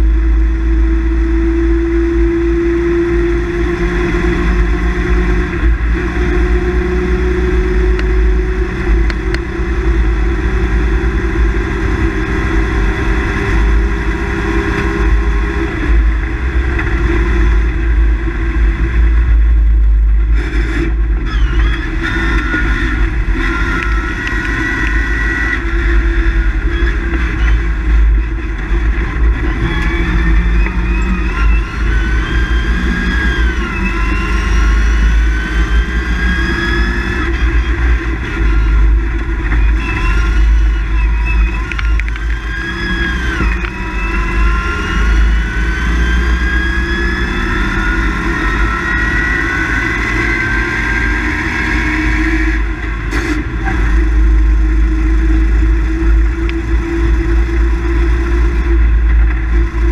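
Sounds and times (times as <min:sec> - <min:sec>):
deep rumble: 0:00.0 - 0:59.9
rally car engine under load: 0:00.0 - 0:59.9.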